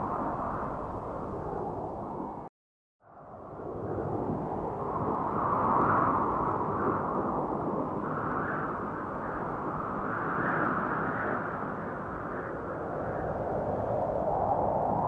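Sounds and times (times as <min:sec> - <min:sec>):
drone rotor wash and wind: 0:00.0 - 0:02.5, 0:03.3 - 0:15.0.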